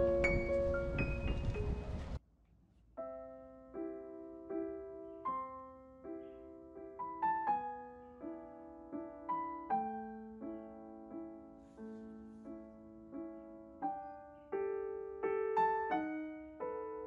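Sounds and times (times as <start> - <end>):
slow gentle piano melody: 0.0 - 2.2, 2.9 - 17.0.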